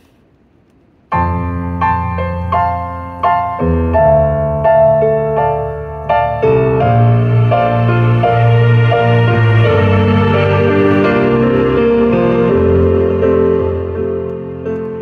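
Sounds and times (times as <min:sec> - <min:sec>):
slow piano music: 0:01.1 - 0:15.0.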